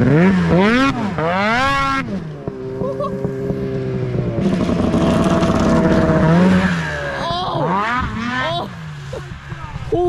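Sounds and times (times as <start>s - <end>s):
snowmobile engine revving: 0.0s - 10.0s.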